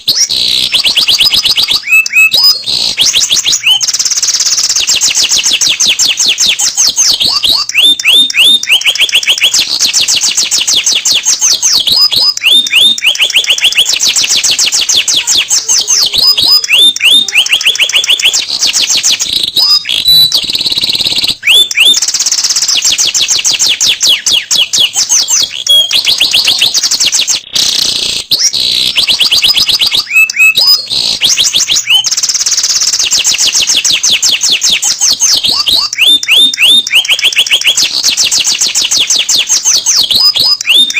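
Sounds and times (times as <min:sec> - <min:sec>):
canary singing fast trills: 0:00.0 - 0:40.9.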